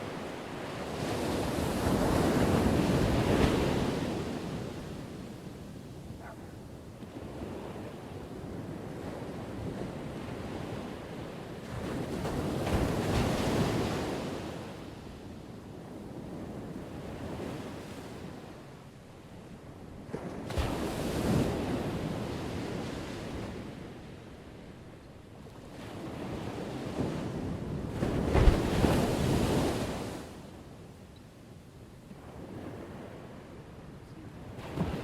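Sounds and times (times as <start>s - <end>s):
ocean waves crashing on shore: 0.0s - 25.0s, 25.6s - 30.8s, 32.1s - 35.0s.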